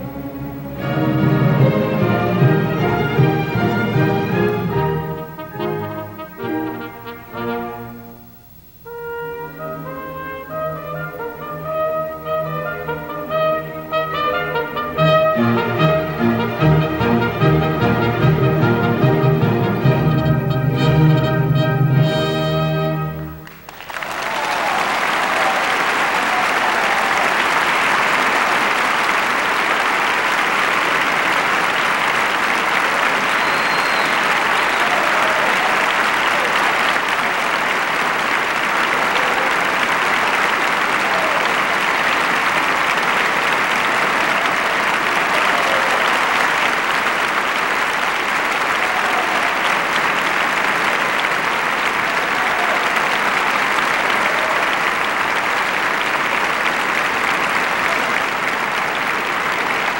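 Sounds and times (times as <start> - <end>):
audience applauding: 0.0 - 8.0, 9.5 - 22.0, 22.9 - 59.9.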